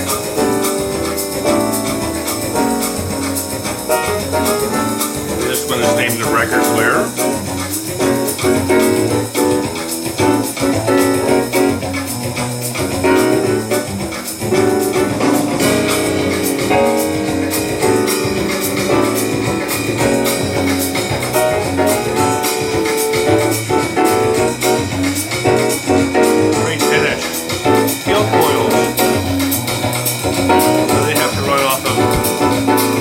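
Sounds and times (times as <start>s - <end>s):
melodic music with steady beat: 0.0s - 33.0s.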